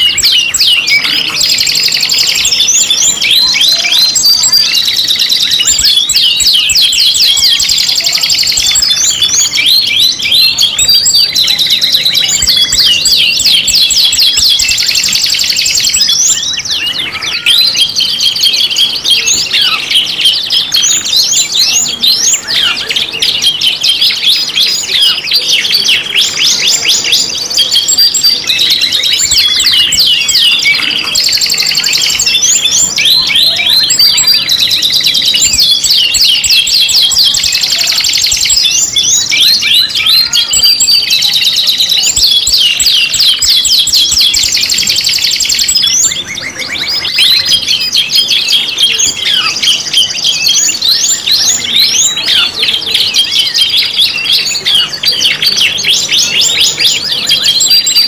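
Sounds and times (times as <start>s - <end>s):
canaries singing trills: 0.0s - 58.0s.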